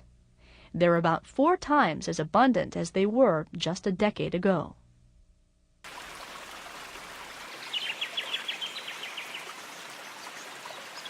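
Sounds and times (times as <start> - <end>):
outdoor background hiss: 1.9 - 11.0.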